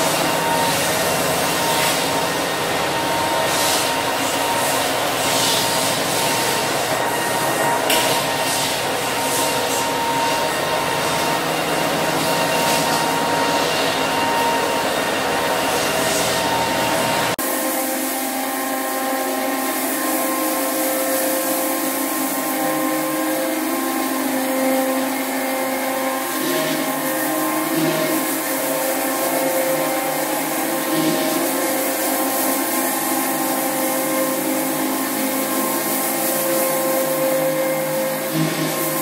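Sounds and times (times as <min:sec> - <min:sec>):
drum floor sander running: 0:00.0 - 0:39.0
rotary floor sander whine: 0:00.0 - 0:39.0.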